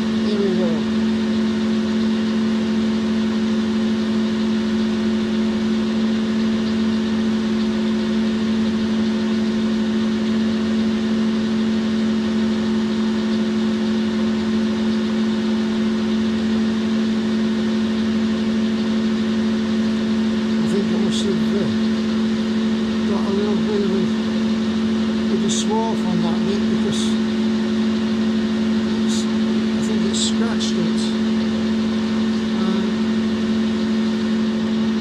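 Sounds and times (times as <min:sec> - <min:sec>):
lathe running with even hum: 0:00.0 - 0:35.0.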